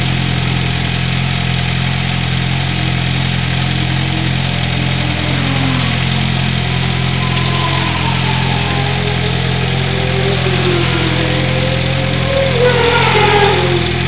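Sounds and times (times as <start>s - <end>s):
car engine idling: 0.0s - 14.0s
fainter engine rising and falling: 0.0s - 14.0s.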